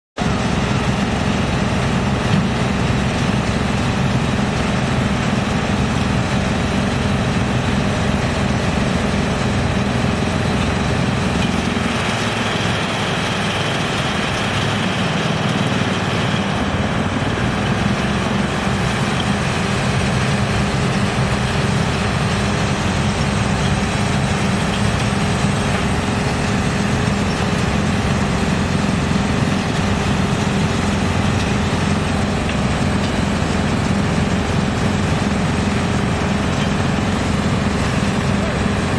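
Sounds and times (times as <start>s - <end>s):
excavator engine running: 0.2s - 38.9s
wood chipper chipping wood: 0.2s - 38.9s.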